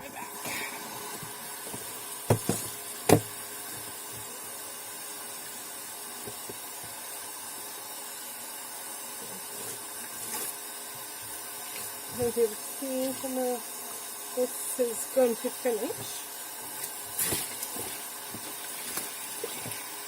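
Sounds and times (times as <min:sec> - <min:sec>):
water running from a tap: 0:00.1 - 0:20.0.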